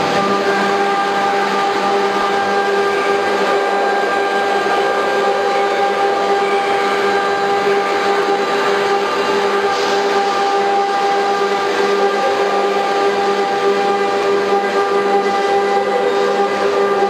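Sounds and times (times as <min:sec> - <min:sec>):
router spindle whine: 0:00.0 - 0:17.0
rushing cutting and extraction noise: 0:00.0 - 0:17.0.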